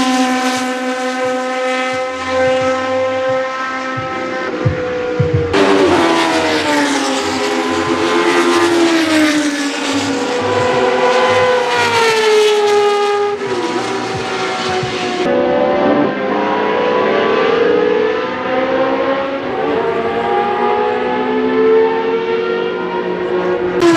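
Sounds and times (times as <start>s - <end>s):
racing car engines revving: 0.0s - 23.9s.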